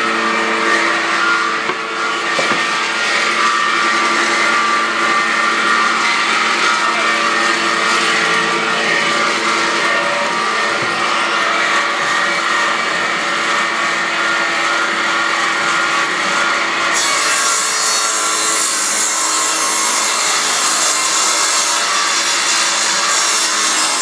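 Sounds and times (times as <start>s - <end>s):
woodworking machine cutting wood: 0.0s - 24.0s.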